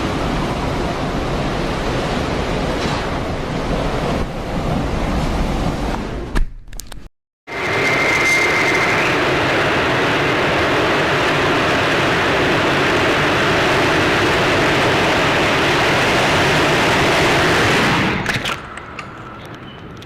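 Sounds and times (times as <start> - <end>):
loud wind noise: 0.0 - 6.4, 7.5 - 20.0.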